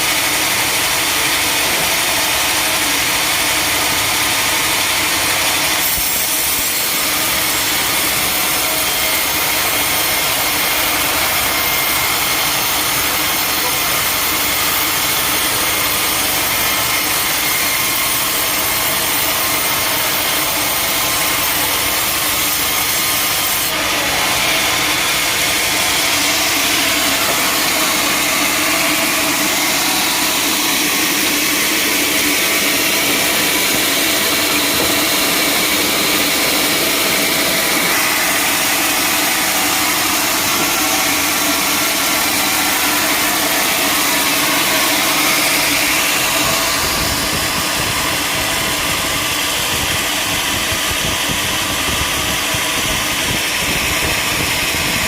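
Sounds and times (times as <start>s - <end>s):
machine drone: 0.0s - 55.0s
saw cutting through log: 0.0s - 55.0s.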